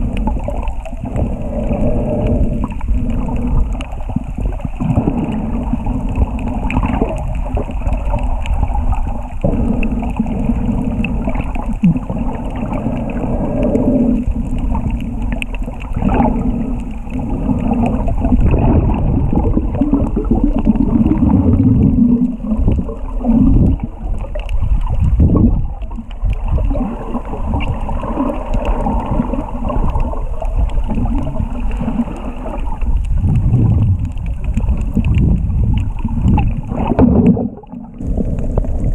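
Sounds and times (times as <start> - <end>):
muffled rumbling water gurgling: 0.0 - 38.9.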